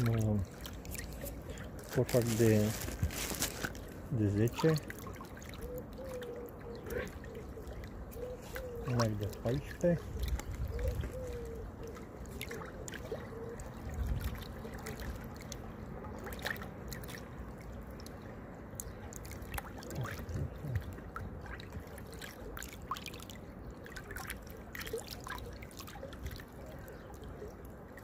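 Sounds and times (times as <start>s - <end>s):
small splashes and drips: 0.0s - 28.0s
waves lapping at water's edge: 0.0s - 28.0s.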